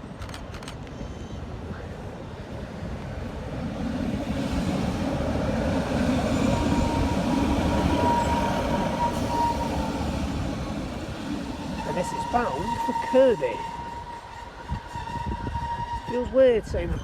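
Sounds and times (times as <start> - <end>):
diesel train running noise: 0.0 - 17.0.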